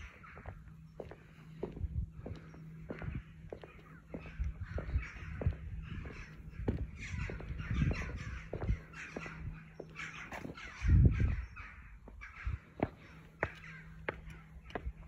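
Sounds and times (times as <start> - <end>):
footsteps on stone paving: 0.0 - 10.8, 12.0 - 15.0
birds giving harsh calls: 0.0 - 15.0.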